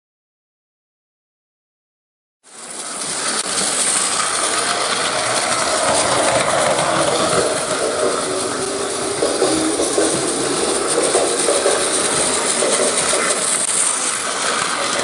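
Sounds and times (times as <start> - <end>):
train rumbling on track: 2.4 - 15.0.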